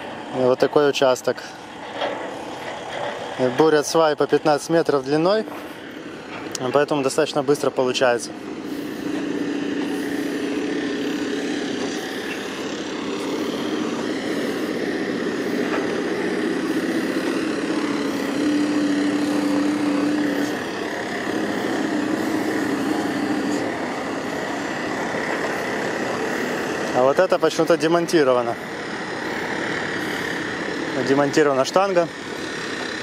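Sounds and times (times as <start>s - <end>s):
heavy diesel machinery running: 0.0s - 33.0s.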